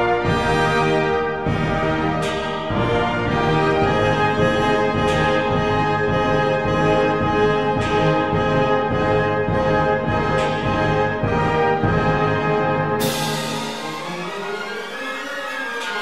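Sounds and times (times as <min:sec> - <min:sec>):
orchestral music with brass chords: 0:00.0 - 0:16.0.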